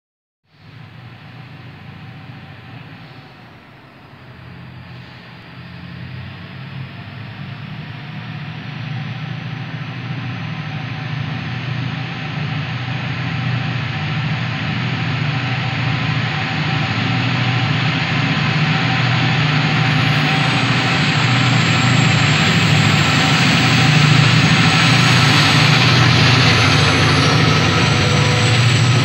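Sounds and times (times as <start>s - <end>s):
locomotive engine drone: 0.5s - 29.0s.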